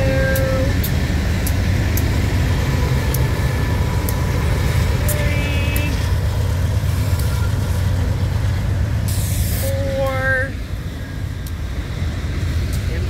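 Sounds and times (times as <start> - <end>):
diesel locomotive rumbling past: 0.0 - 13.0.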